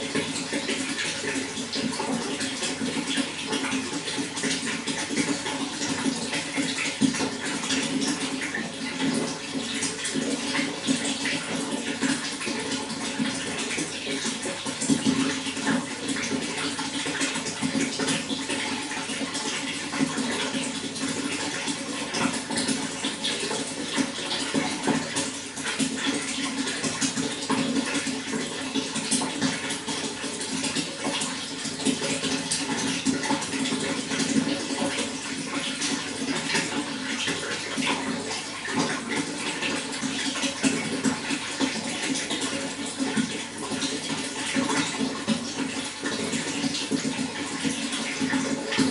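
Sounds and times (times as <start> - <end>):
small water splashes: 0.0 - 48.9
water rushing: 0.0 - 48.9.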